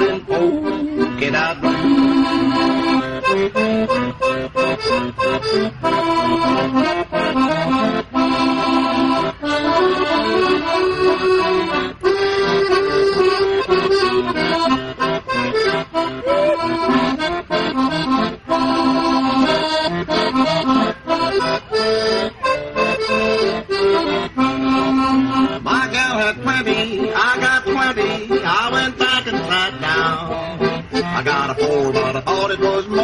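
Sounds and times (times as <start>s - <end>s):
country music with accordion: 0.0s - 33.0s.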